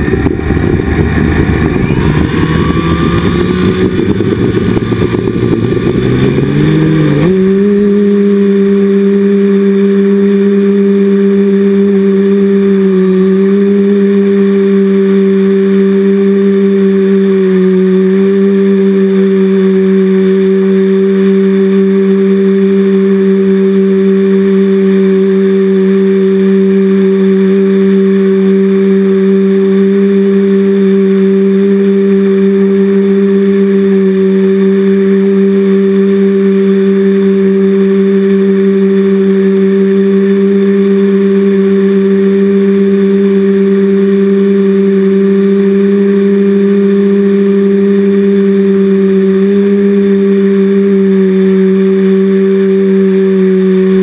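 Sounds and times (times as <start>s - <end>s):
drone motors and propellers: 0.0s - 54.0s.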